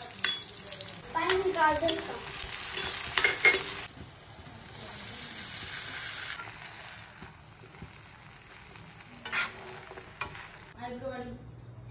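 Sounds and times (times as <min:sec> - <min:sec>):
oil and onions sizzling: 0:00.0 - 0:10.8
rice stirred in pan: 0:00.0 - 0:10.8.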